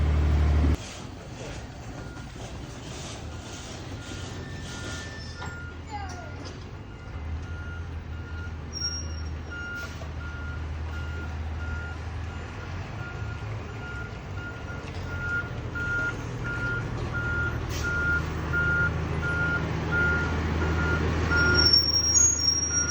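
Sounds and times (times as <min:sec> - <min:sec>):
diesel engine drone: 0:00.0 - 0:22.9
reversing alarm beeping: 0:01.9 - 0:22.9.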